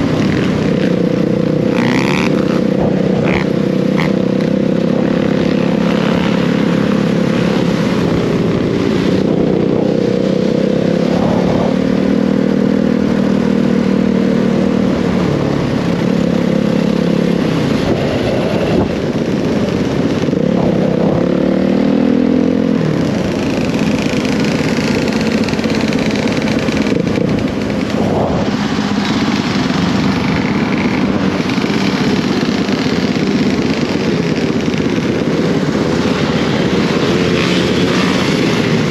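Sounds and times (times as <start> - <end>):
dirt bike engine running: 0.0 - 38.9
second engine: 0.0 - 38.9.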